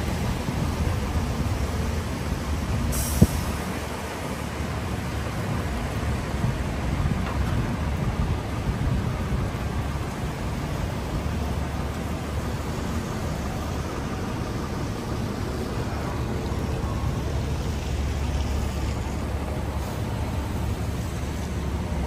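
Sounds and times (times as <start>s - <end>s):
city traffic rumble: 0.0s - 22.0s
rain on an umbrella: 0.0s - 22.0s.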